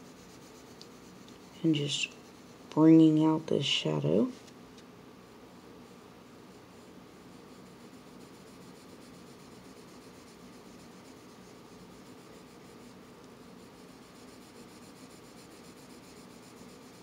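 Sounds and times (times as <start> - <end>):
pencil scratching on paper: 0.0 - 3.4, 5.8 - 17.0.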